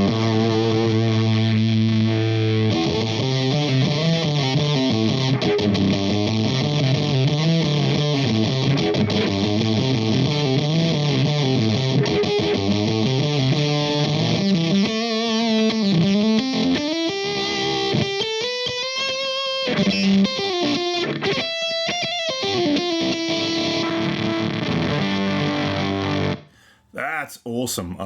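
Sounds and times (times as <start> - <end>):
fuzz electric guitar: 0.0 - 26.5.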